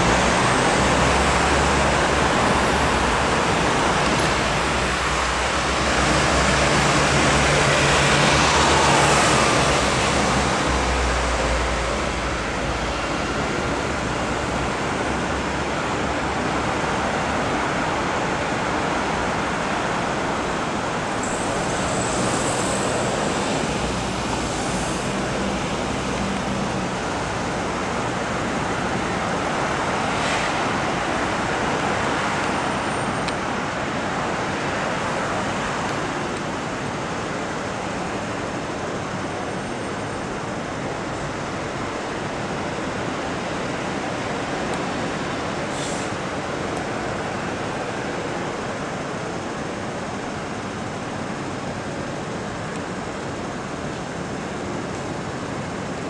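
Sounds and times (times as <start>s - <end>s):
city road traffic: 0.0s - 56.0s.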